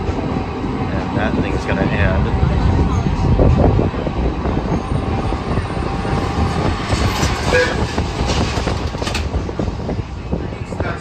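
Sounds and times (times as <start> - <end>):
streetcar wheels rumbling on rail: 0.0 - 11.0.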